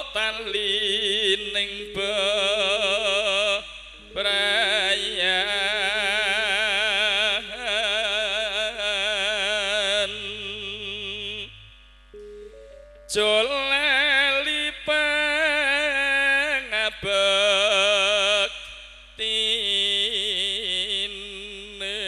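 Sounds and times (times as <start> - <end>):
man singing with vibrato: 0.0 - 11.8, 13.1 - 22.0.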